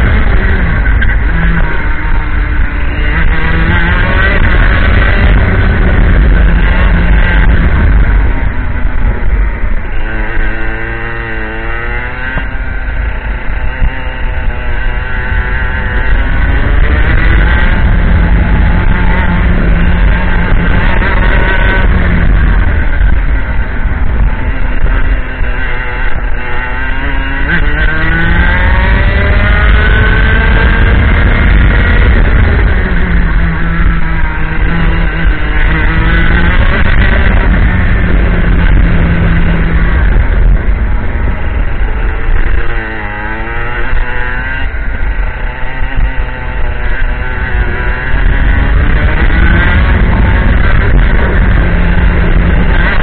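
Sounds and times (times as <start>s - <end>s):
two-stroke kart engine racing: 0.0s - 53.0s.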